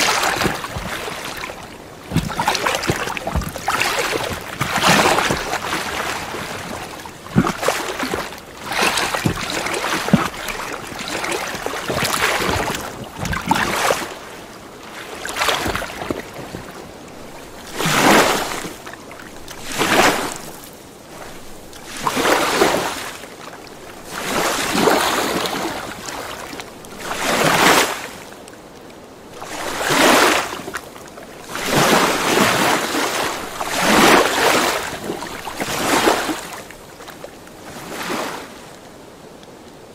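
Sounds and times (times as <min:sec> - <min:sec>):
small waves washing in: 0:00.0 - 0:39.9.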